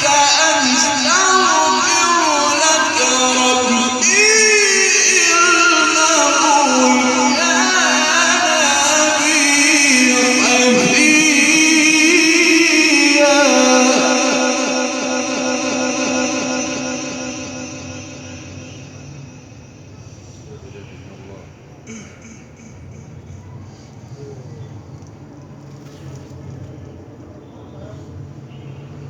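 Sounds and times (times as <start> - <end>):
man reciting melodically with echo: 0.0 - 24.9.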